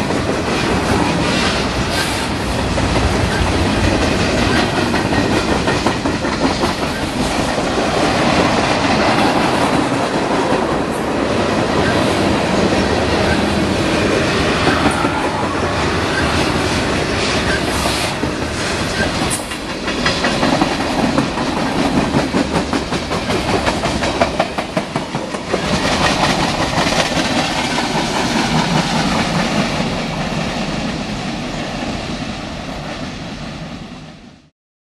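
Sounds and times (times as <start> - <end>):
train wheels clickety-clack: 0.0 - 34.2
freight train rumble: 0.0 - 34.5.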